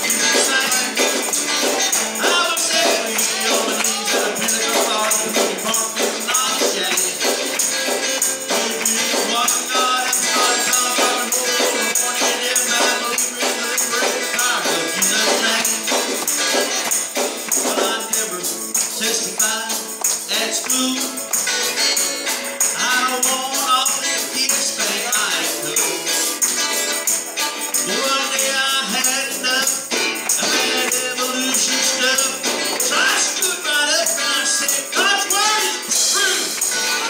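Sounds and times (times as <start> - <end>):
electric guitar: 0.0 - 37.0
tambourine rhythm: 0.0 - 37.0.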